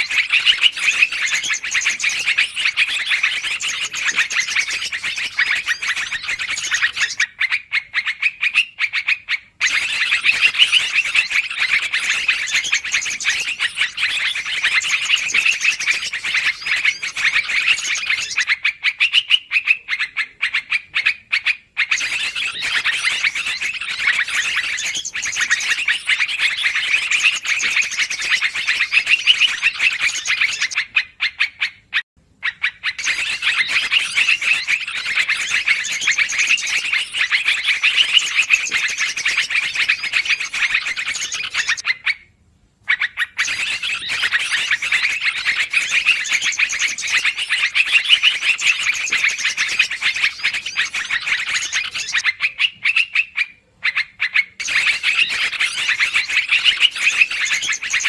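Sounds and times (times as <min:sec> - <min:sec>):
birds chattering: 0:00.0 - 0:42.2, 0:42.8 - 0:58.0.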